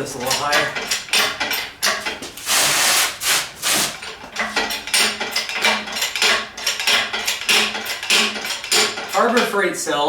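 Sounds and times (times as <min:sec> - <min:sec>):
hydraulic hoist pump creaking: 0:00.0 - 0:09.5.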